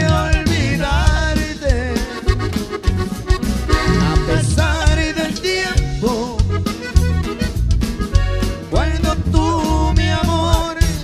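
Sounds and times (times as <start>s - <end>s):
accordion melody: 0.0s - 11.0s
drum beat: 0.0s - 11.0s
electric bass: 0.0s - 11.0s.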